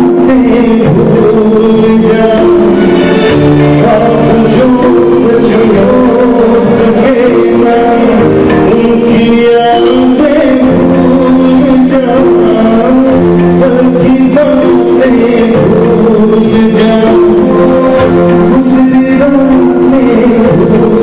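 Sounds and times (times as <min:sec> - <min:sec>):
person singing with accompaniment: 0:00.0 - 0:21.0.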